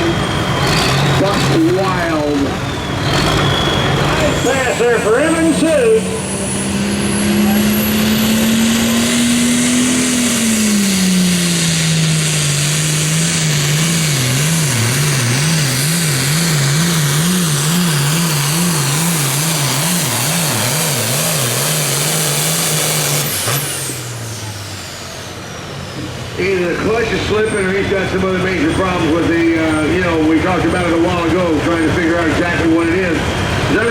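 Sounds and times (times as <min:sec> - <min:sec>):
tractor engine running flat out: 0:00.0 - 0:33.9.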